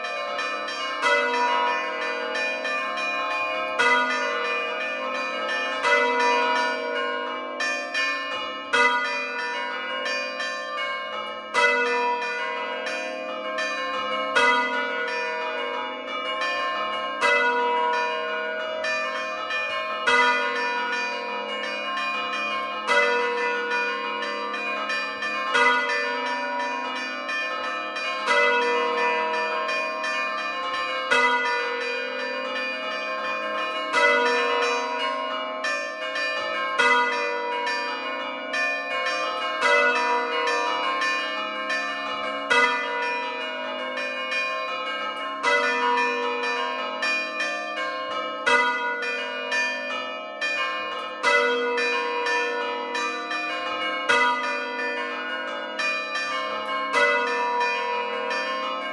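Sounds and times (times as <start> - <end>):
church bells pealing: 0.0 - 58.9.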